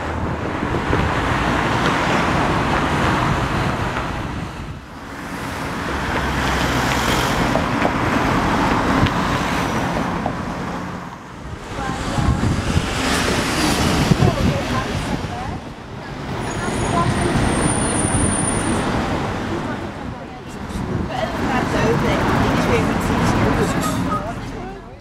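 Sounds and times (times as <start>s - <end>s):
cars driving past: 0.0s - 25.0s.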